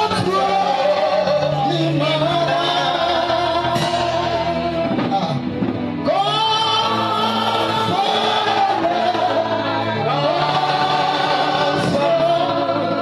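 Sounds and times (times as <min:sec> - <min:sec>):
congregation singing gospel: 0:00.0 - 0:13.0
worship music: 0:00.0 - 0:13.0.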